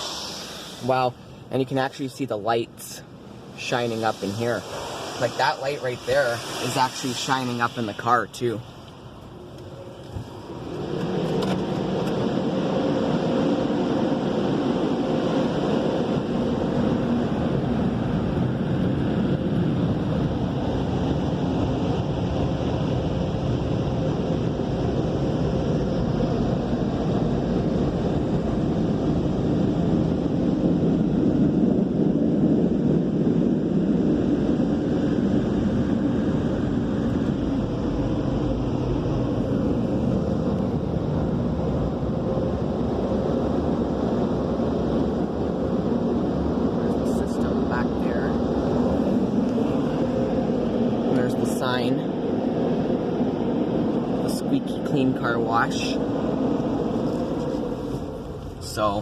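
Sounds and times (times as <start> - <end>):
car wash air blowers: 0.0 - 31.1, 32.0 - 59.0.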